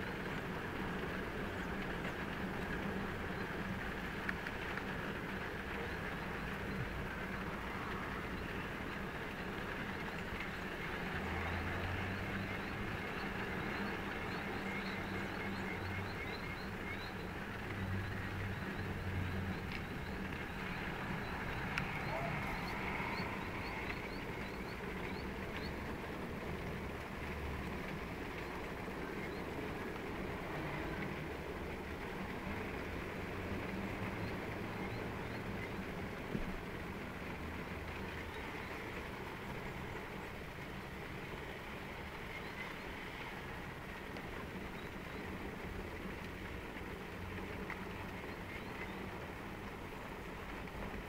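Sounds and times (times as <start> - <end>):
wind: 0.0 - 51.0.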